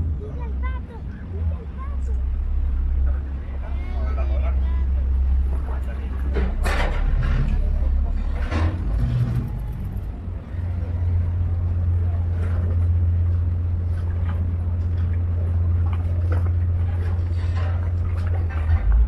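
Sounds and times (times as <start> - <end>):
boat engine droning: 0.0 - 19.0
constant rushing noise: 0.0 - 19.0.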